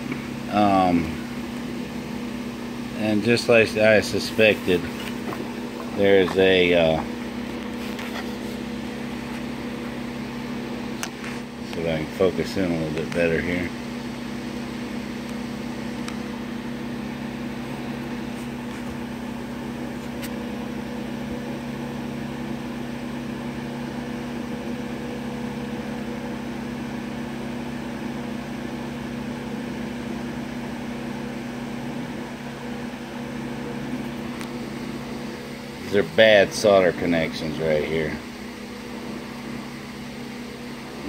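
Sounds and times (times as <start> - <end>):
small machine humming: 0.0 - 41.0.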